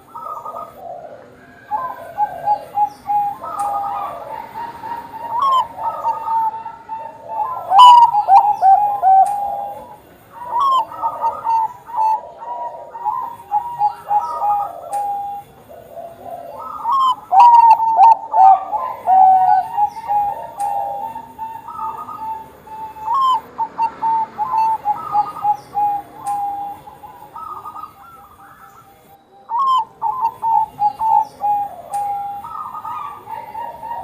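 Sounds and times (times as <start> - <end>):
dove cooing: 0.0 - 34.0.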